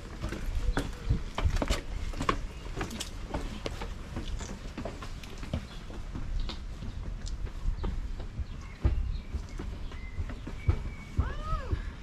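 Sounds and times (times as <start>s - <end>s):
walking footsteps thudding: 0.0s - 12.0s.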